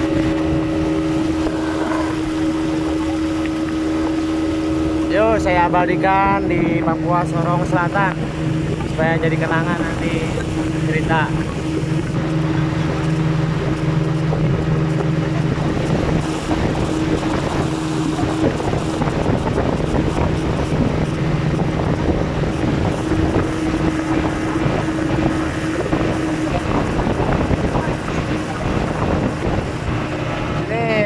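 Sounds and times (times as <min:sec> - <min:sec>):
boat motor humming: 0:00.0 - 0:31.0
wind noise on microphone: 0:00.0 - 0:31.0.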